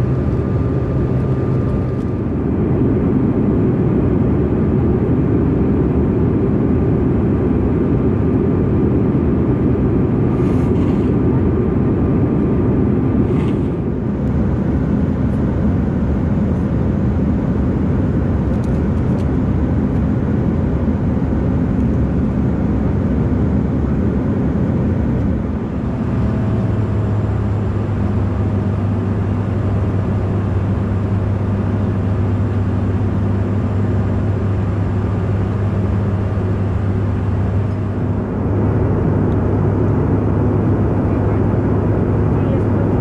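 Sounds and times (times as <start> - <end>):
deep steady hum: 0.0 - 43.0
jet engine and airflow rush: 0.0 - 43.0.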